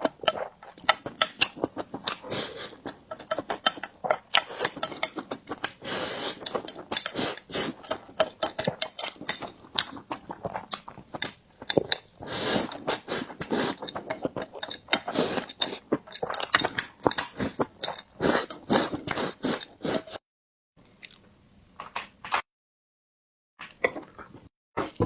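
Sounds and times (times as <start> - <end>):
chewing and biting mouth sounds: 0.0 - 20.2, 21.0 - 21.2.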